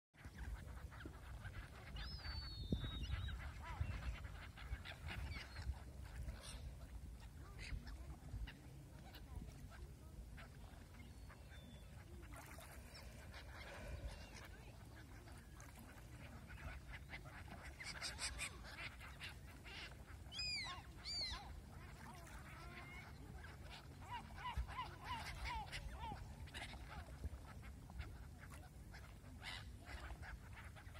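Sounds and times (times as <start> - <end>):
gulls calling: 0.2 - 30.9.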